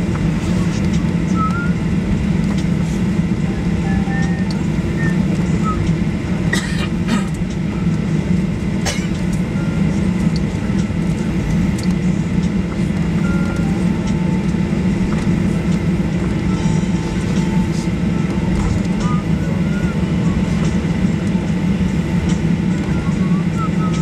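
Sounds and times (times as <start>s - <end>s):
airliner cabin drone: 0.0s - 24.0s.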